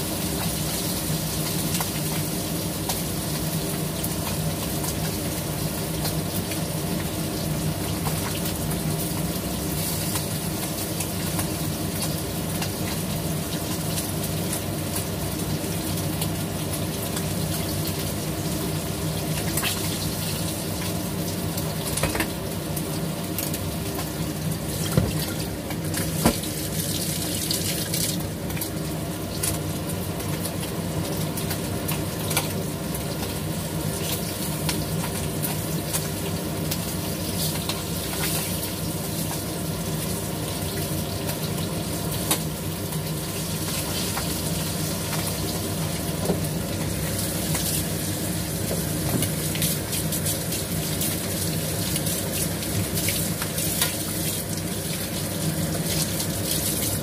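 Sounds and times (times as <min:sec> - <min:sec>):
fish frying in hot oil: 0:00.0 - 0:57.0.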